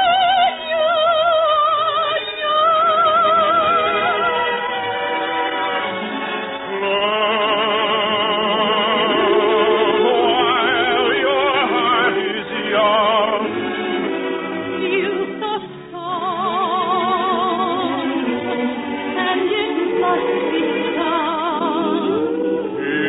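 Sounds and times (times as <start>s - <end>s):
soprano singing operatically: 0.0s - 4.8s, 6.6s - 23.0s
orchestral accompaniment: 0.2s - 23.0s.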